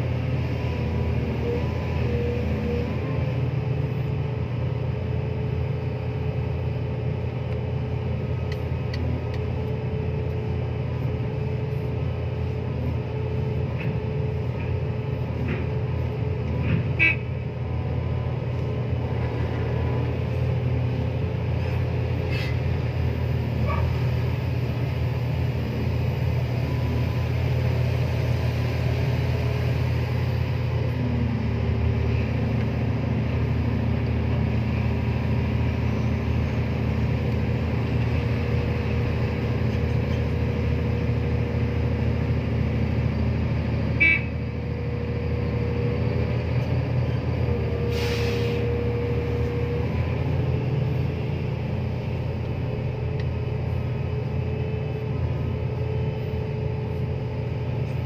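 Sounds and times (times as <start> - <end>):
excavator engine and hydraulics droning: 0.0 - 58.0.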